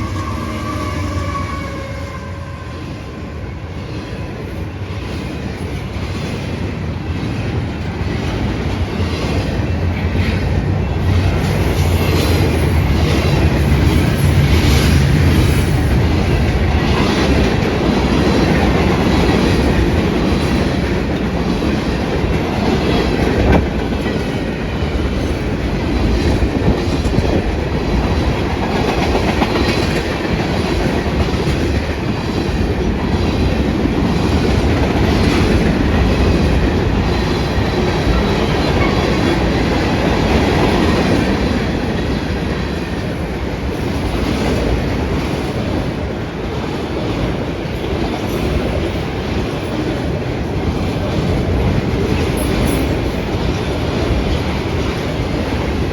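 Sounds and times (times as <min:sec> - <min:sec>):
train cars rumbling past: 0:00.0 - 0:55.9.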